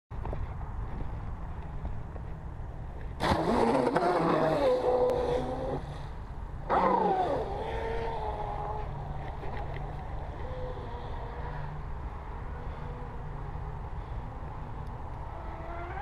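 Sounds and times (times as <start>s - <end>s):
wind rumbling on microphone: 0.1s - 16.0s.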